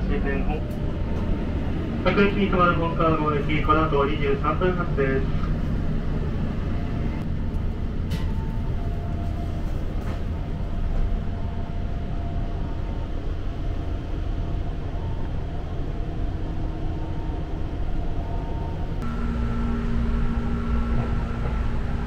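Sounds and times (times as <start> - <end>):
faint humming tones: 0.0 - 22.0
train wheels rumbling: 0.0 - 22.0.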